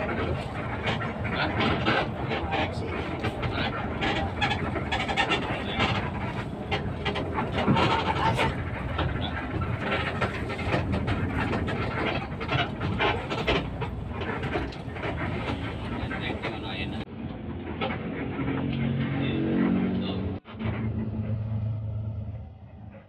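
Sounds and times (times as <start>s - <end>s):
rattles and knocks in bus: 0.0s - 19.2s
bus engine and road noise: 0.0s - 23.0s.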